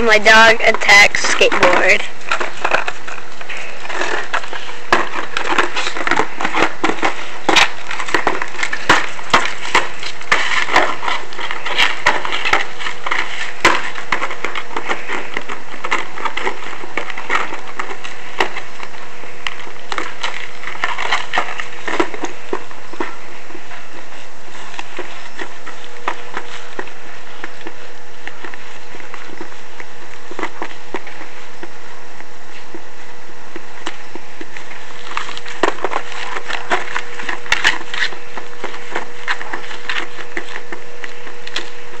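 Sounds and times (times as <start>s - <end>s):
dog chewing wood: 0.0s - 42.0s.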